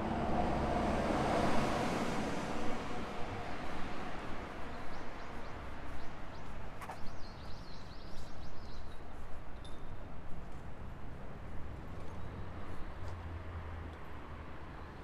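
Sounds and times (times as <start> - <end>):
city street noise: 0.0 - 15.0.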